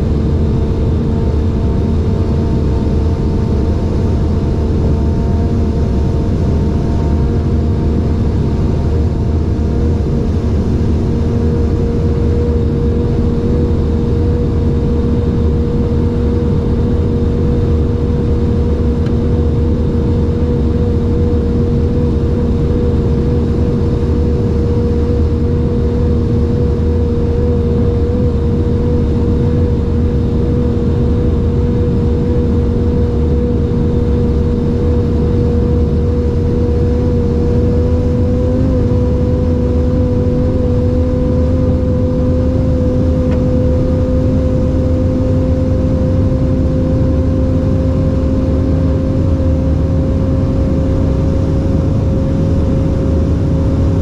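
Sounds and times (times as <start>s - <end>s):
car engine drone: 0.0s - 54.0s
road and wind noise rumble: 0.0s - 54.0s.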